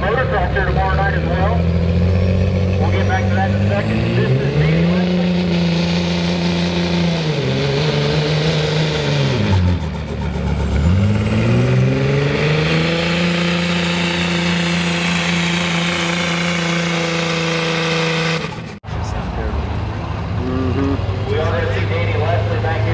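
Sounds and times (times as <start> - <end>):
diesel truck engine revving: 0.0 - 22.9.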